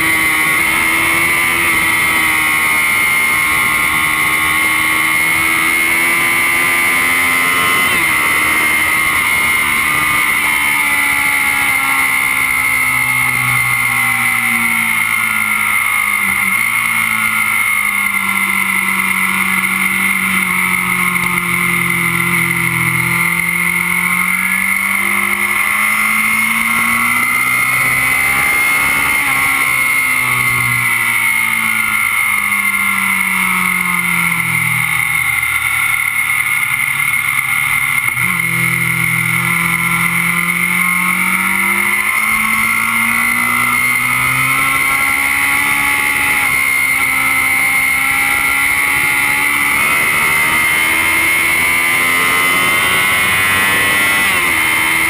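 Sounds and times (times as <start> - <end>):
motorcycle engine revving: 0.0 - 55.0
steady high whine: 0.0 - 55.0.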